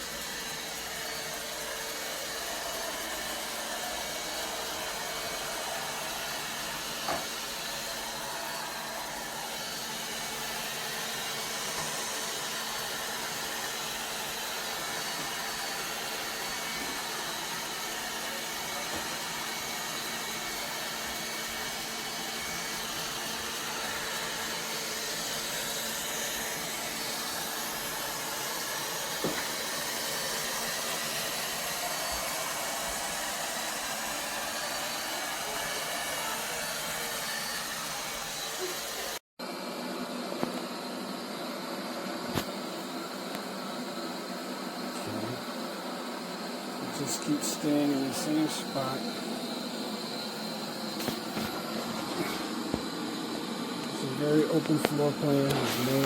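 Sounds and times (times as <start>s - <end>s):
robot vacuum fan whirring: 0.0s - 56.0s.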